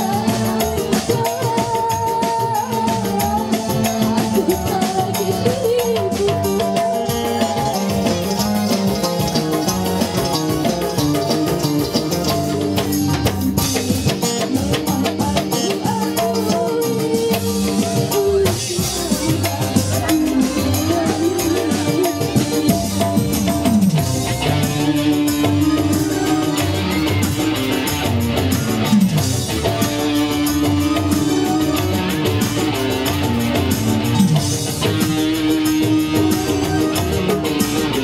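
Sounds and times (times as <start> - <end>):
woman singing into a microphone: 0.0 - 12.8, 13.6 - 27.9, 29.6 - 33.2, 34.4 - 38.0
drum and percussion beat: 0.0 - 38.0
electric guitar: 0.0 - 38.0
electric keyboard: 0.0 - 38.0.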